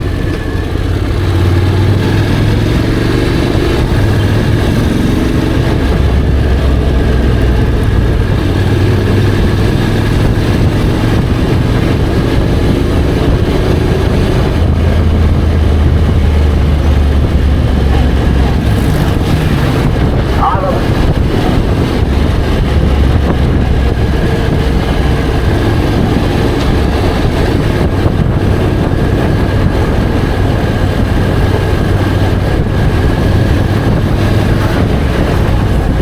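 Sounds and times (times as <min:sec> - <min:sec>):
motorcycle engine running: 0:00.0 - 0:36.0
road and wind noise: 0:00.0 - 0:36.0.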